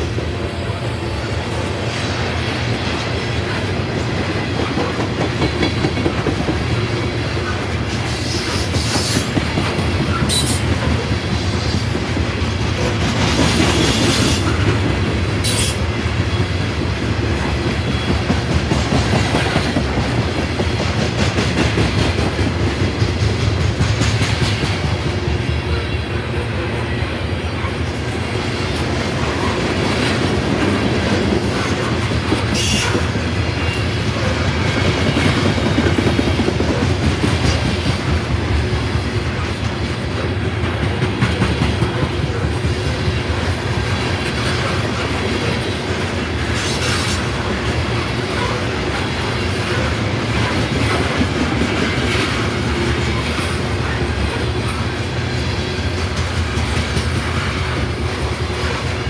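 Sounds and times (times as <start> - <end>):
freight train wheels clattering on rails: 0.0 - 59.0.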